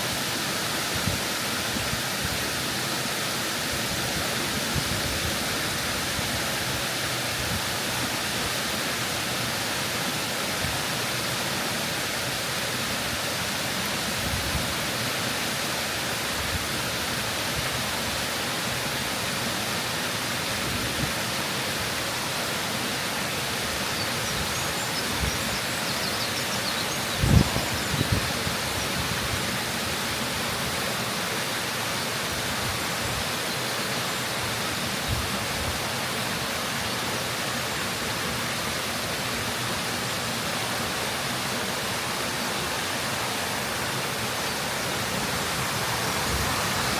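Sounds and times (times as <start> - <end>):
waterfall crashing: 0.0 - 46.9.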